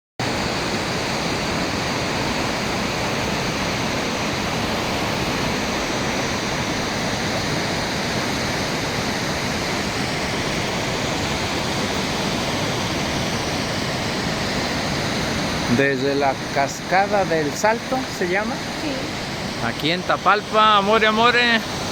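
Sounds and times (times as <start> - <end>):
waterfall rushing: 0.2 - 21.9.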